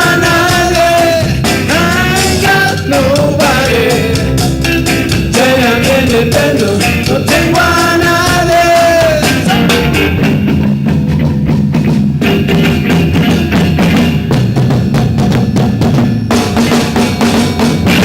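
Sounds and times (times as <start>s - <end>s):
bass guitar: 0.0s - 18.0s
drum kit: 0.0s - 18.0s
live rock band playing: 0.0s - 18.0s.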